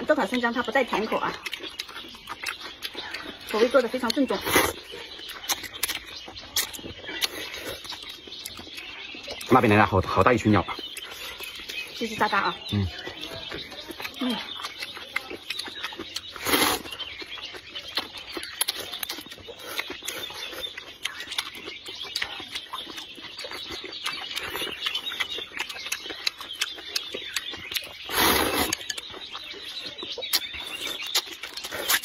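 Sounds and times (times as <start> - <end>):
small birds chirping: 0.0 - 32.0
slurping and chewing noodles: 0.1 - 32.0.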